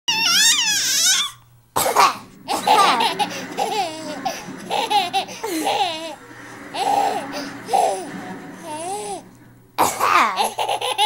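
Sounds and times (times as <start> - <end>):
baby laughing: 0.1 - 11.0.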